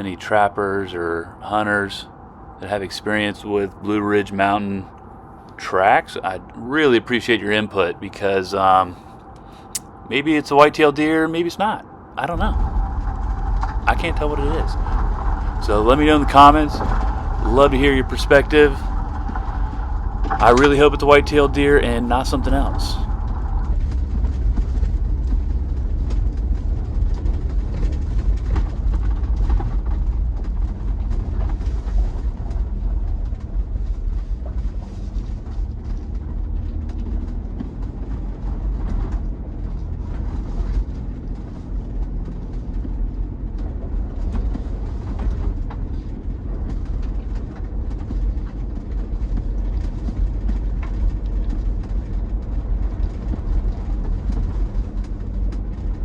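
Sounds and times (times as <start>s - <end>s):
vehicle engine and tyres rumbling: 0.0s - 56.0s.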